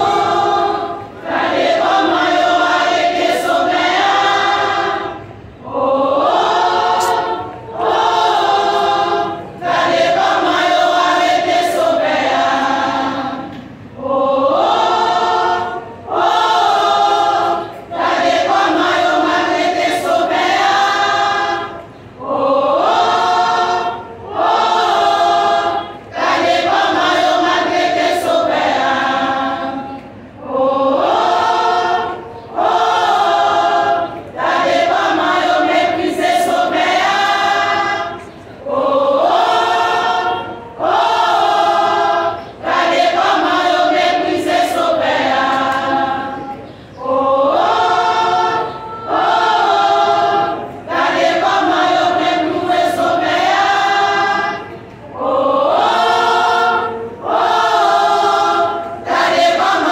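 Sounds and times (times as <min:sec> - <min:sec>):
women's choir singing a hymn: 0:00.0 - 0:59.9.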